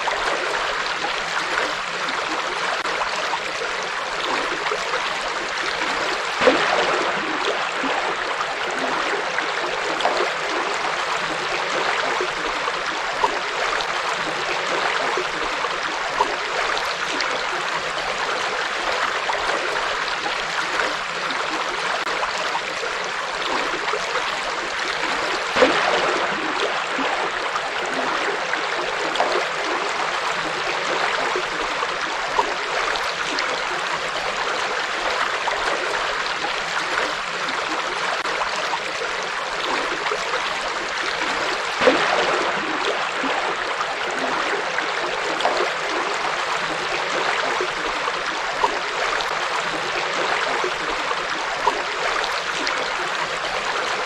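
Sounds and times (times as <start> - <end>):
water splashes: 0.0 - 54.0.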